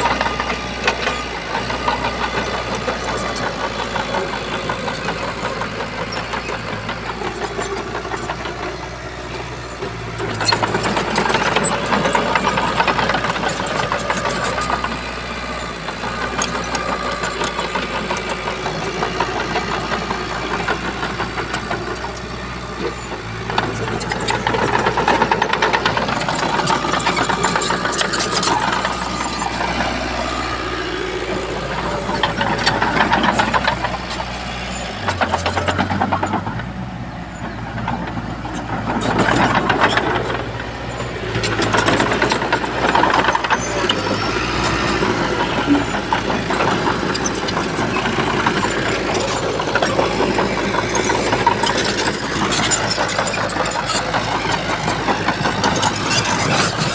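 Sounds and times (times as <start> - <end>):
bulldozer diesel engine: 0.0 - 56.9
machine rattles and clanks: 0.0 - 56.9.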